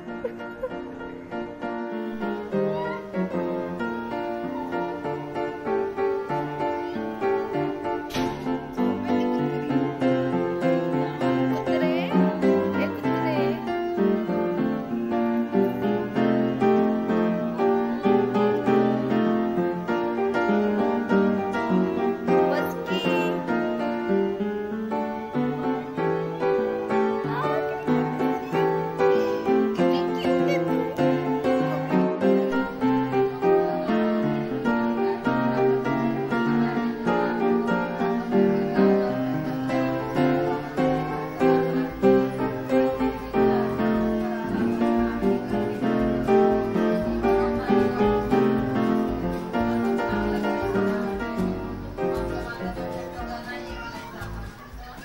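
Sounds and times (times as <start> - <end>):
plucked-string instrumental music: 0.0 - 55.0.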